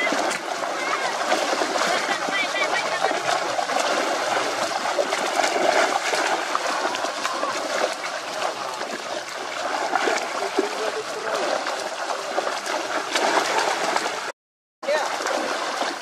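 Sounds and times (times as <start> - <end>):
fish splashing in water: 0.0 - 16.0.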